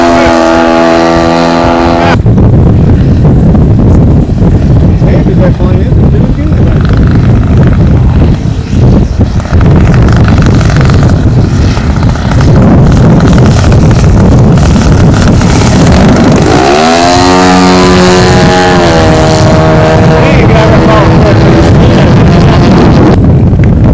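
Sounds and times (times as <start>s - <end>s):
model plane engine buzzing: 0.0s - 2.2s, 2.8s - 23.6s
wind buffeting microphone: 0.0s - 23.9s.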